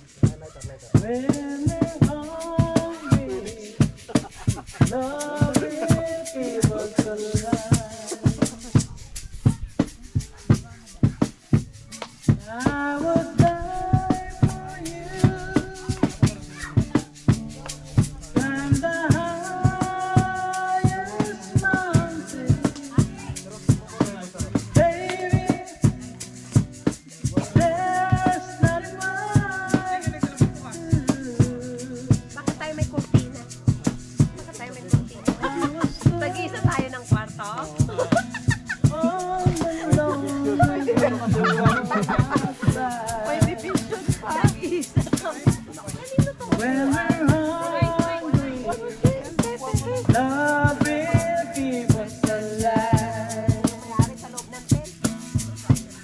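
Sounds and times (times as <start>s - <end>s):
song with drum beat: 0.0s - 56.0s.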